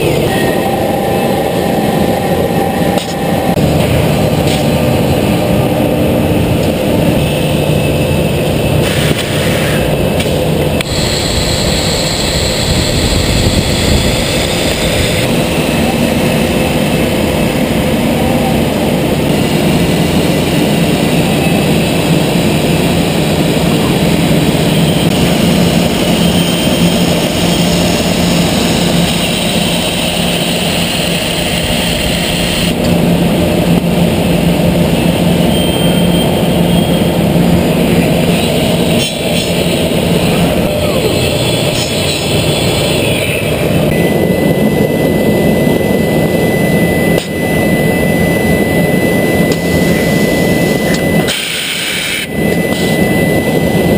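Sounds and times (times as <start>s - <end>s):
high machine whines: 0.0s - 53.9s
loud industrial machine din: 0.0s - 53.9s.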